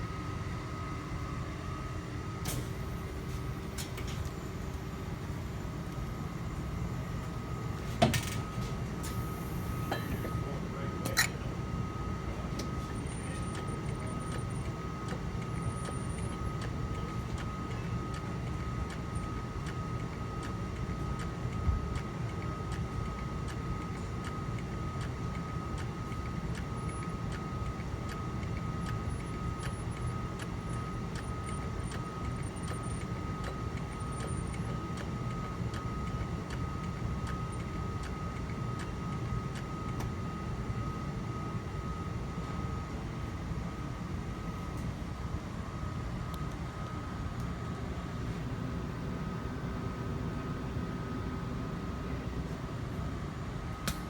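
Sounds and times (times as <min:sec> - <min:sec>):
industrial machinery humming: 0:00.0 - 0:54.0.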